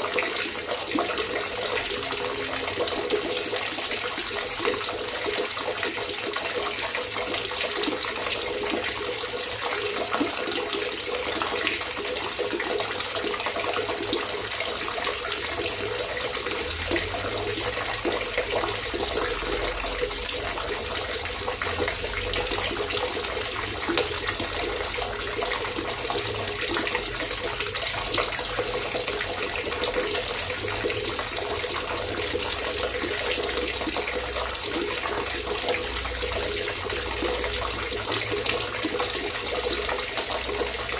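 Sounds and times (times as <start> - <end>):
gurgling trickling water: 0.0 - 40.9.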